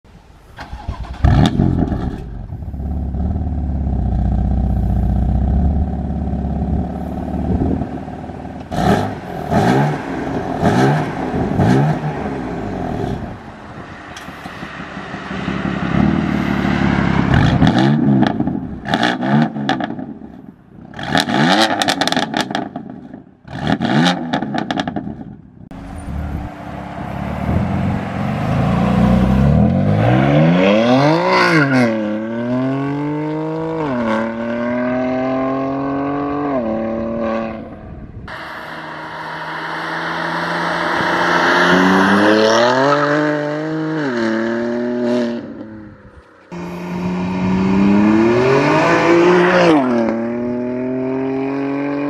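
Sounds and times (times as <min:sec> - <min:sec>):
car engine idling and revving: 0:00.6 - 0:52.0.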